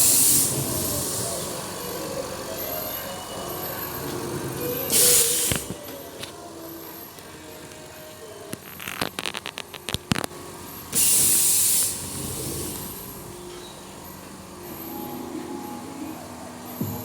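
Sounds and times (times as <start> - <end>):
quiet machine background: 0.0 - 17.0.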